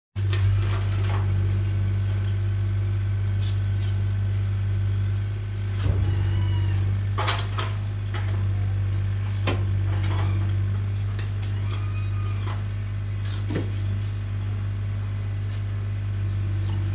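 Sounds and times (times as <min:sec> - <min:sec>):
steady low hum: 0:00.3 - 0:16.9.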